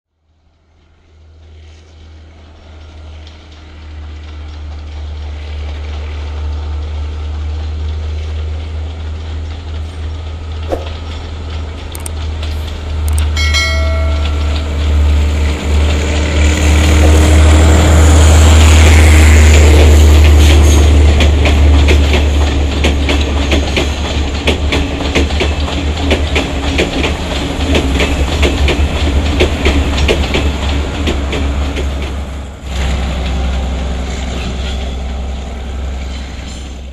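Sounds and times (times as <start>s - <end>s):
train engine drone: 0.2s - 36.9s
wheels clacking over rail joints: 1.6s - 36.9s.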